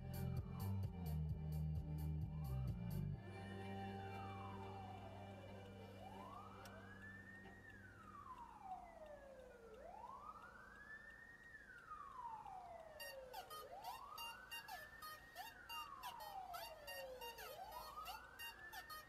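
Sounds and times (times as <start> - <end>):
faint police siren wailing: 3.2 - 19.0.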